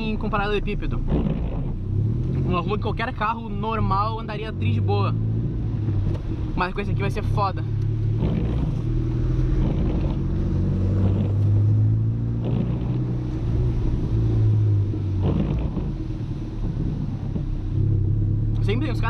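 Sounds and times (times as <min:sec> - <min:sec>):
car engine droning: 0:00.0 - 0:19.0
road rumble: 0:00.0 - 0:19.0.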